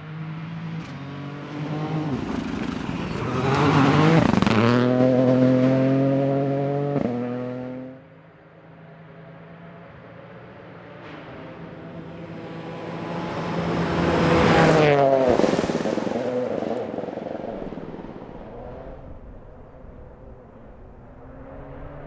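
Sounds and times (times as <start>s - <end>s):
rally car engine passing: 0.0s - 8.1s, 8.8s - 22.0s
gravel and tyre noise: 0.0s - 22.0s.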